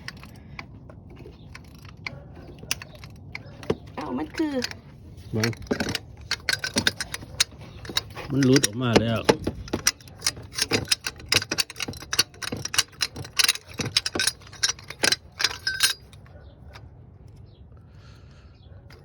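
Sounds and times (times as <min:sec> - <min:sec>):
metal tools clinking: 0:00.0 - 0:17.4.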